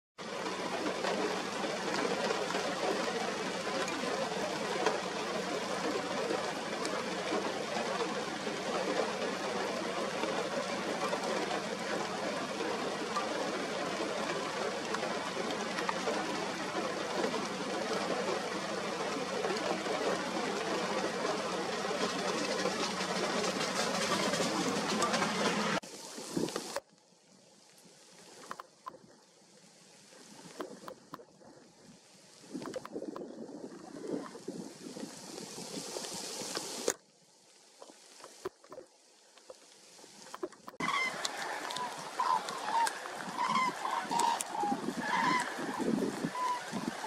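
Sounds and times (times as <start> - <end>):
steady rain falling: 0.2 - 47.0.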